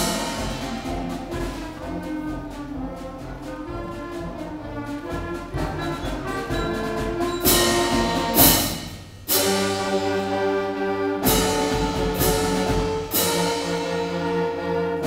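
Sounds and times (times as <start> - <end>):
loud percussion crashes: 0.0 - 3.8, 4.7 - 10.6, 11.2 - 14.2
concert band playing a march: 0.0 - 15.0.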